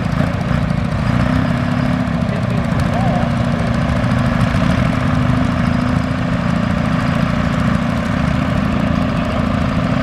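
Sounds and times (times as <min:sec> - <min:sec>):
tractor engines running slowly: 0:00.0 - 0:10.0.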